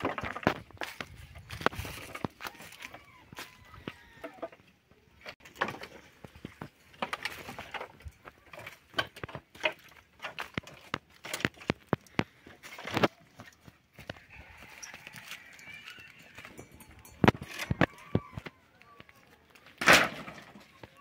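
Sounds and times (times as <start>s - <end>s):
dry branches cracking and rustling: 0.0s - 4.2s, 5.3s - 21.0s.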